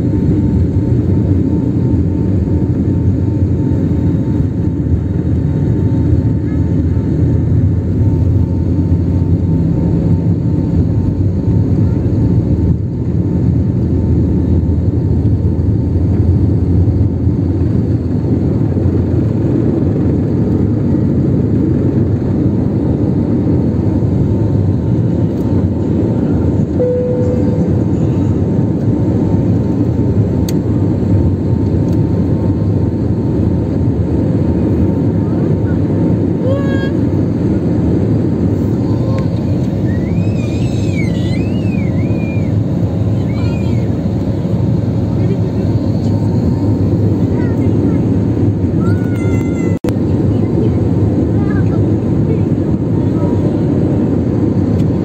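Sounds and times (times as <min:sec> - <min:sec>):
jet engines deep rumble with whine: 0:00.0 - 0:55.0.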